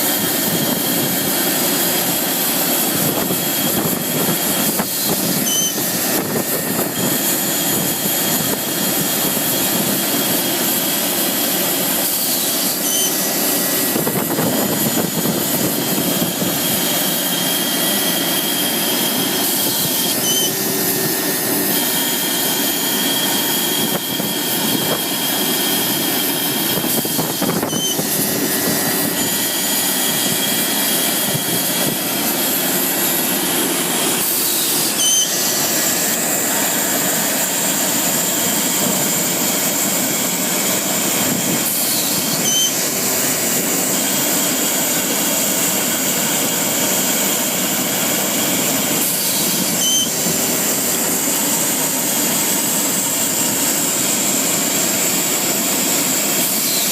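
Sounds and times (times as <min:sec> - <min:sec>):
air compressor running: 0:00.0 - 0:56.9.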